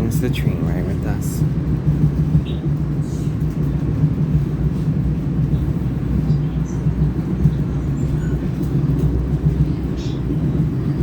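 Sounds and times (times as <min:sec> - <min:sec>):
train rumble from inside carriage: 0:00.0 - 0:11.0.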